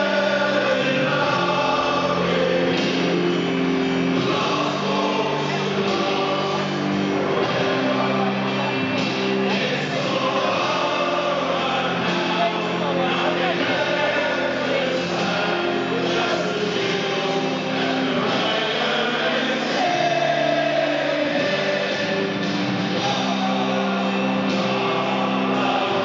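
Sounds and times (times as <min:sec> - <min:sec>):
stadium crowd singing along: 0:00.0 - 0:26.0.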